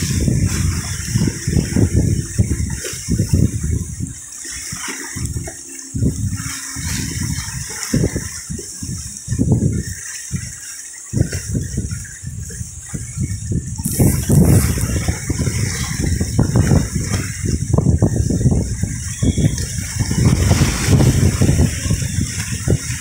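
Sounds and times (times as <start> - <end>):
rushing water: 0.0 - 23.0
wind buffeting microphone: 0.0 - 23.0.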